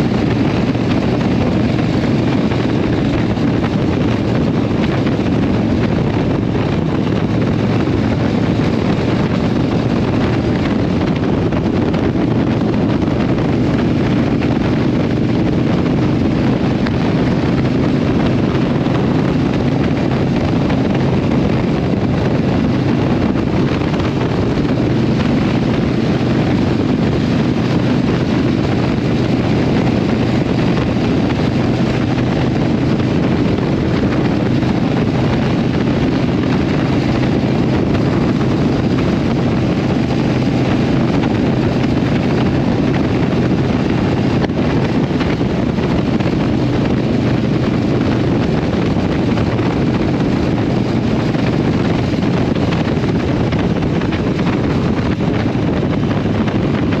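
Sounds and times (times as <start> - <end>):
motorcycle engine cruising: 0.0 - 57.0
wind rush on microphone: 0.0 - 57.0.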